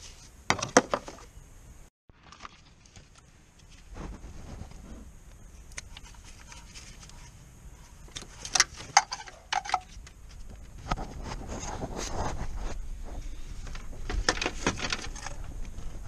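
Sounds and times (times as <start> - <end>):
rustling and handling: 2.1 - 16.0.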